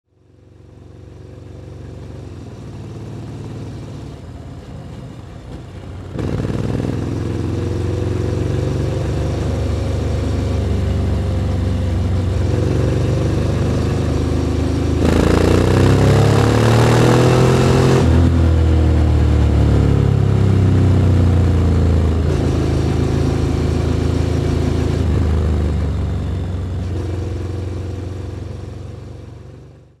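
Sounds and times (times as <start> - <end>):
motorcycle engine accelerating: 0.2 - 30.0.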